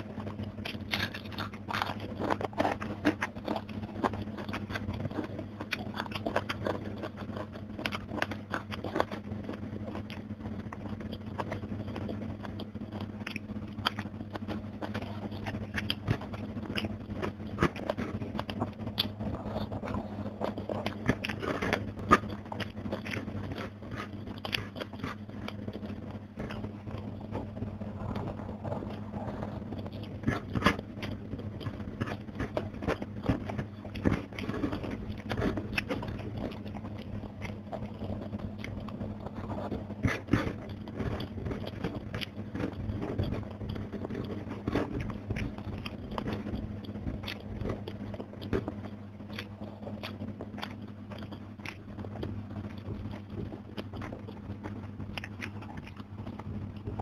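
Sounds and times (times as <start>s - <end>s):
chewing and crunching fried fish: 0.0s - 57.0s
steady low hum: 0.0s - 57.0s.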